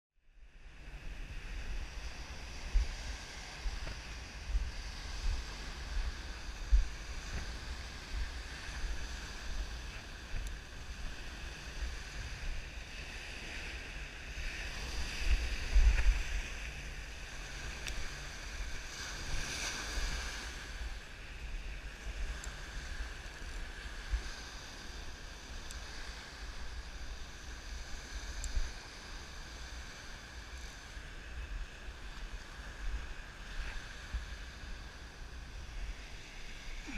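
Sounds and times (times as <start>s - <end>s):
waves washing on beach: 0.5s - 36.9s
wind buffeting microphone: 0.8s - 36.9s.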